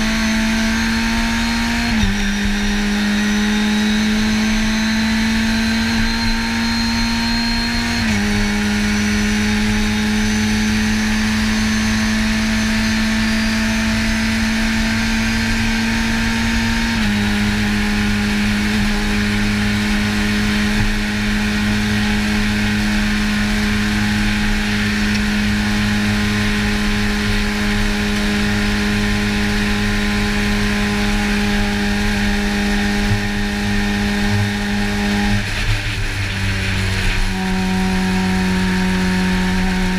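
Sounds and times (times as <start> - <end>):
race car engine at full throttle: 0.0 - 39.9
road and wind noise: 0.0 - 39.9.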